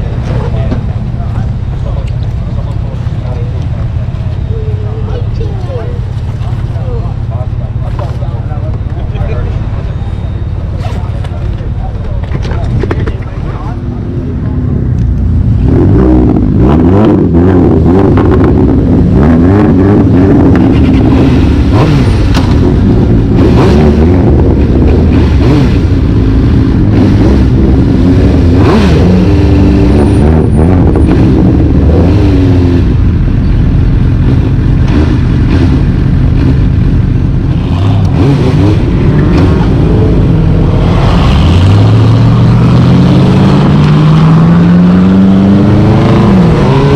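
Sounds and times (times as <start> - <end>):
vehicle engine accelerating: 0.0 - 46.9.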